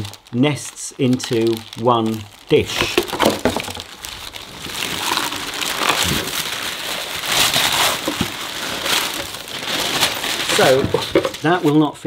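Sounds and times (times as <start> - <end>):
tissue paper rustling and crinkling: 0.0 - 12.0.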